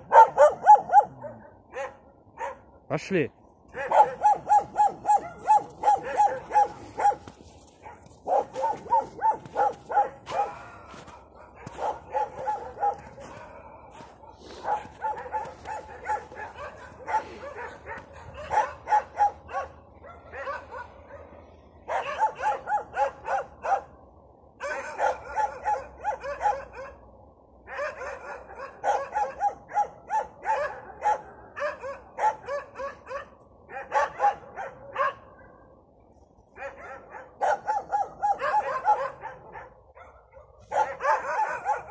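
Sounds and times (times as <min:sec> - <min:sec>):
dogs barking: 0:00.0 - 0:02.8, 0:03.7 - 0:24.0, 0:24.6 - 0:35.6, 0:36.5 - 0:41.9.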